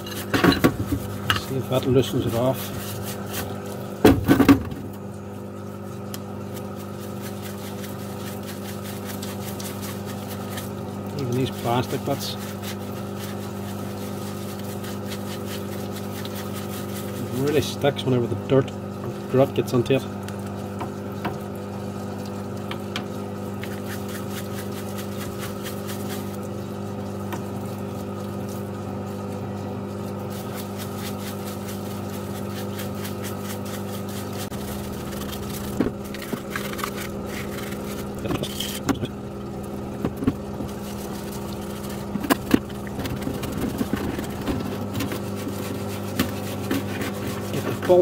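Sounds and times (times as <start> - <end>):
brush scrubbing metal: 0.0 - 4.0, 5.0 - 21.4, 22.7 - 39.2, 39.8 - 48.0
low machine hum: 0.0 - 48.0.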